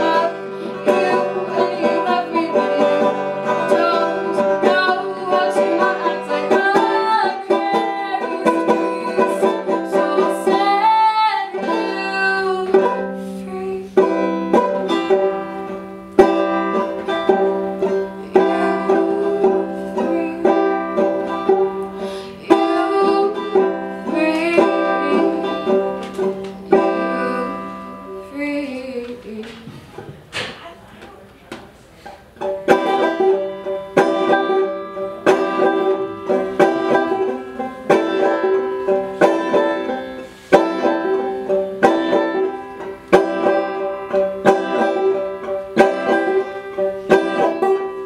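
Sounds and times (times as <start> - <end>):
banjo picking: 0.0 - 30.6, 31.8 - 48.0.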